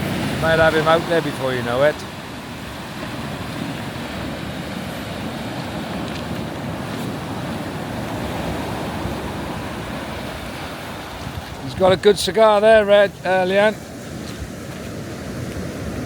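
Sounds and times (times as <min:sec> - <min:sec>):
sea surf washing on beach: 0:00.0 - 0:16.0
wind buffeting microphone: 0:00.0 - 0:16.0.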